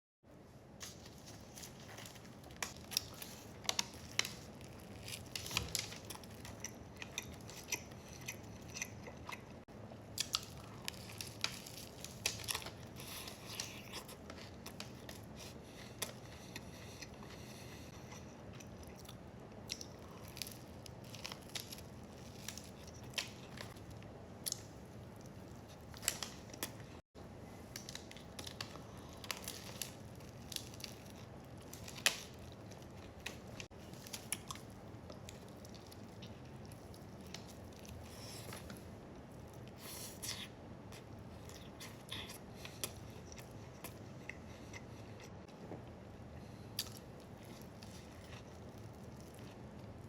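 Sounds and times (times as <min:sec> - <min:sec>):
person chewing crunchy food: 0:00.8 - 0:27.0, 0:27.7 - 0:50.0.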